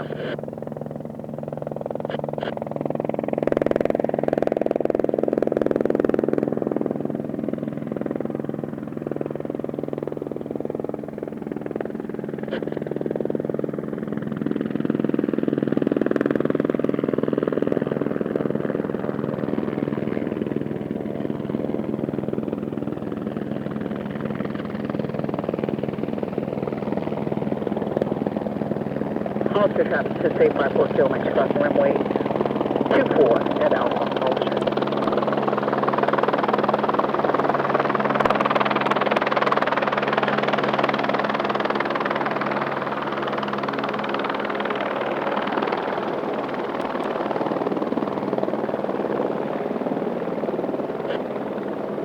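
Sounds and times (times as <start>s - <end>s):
helicopter rotor chopping: 0.0s - 52.0s
turbine engine whine: 0.0s - 52.0s.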